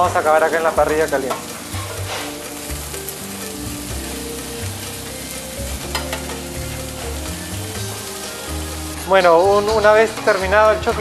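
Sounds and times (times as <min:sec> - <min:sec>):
corn sizzling on a grill: 0:00.0 - 0:11.0.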